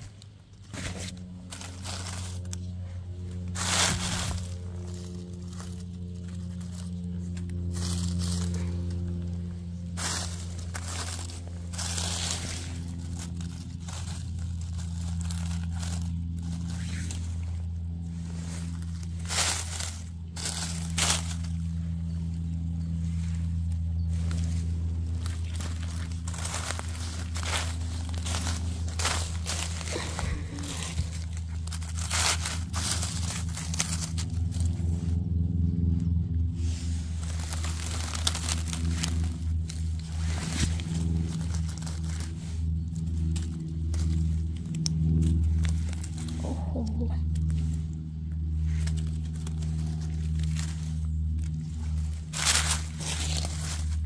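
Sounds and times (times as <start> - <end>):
dry leaves crackling and rustling: 0.0 - 54.0
steady low hum: 0.0 - 54.0.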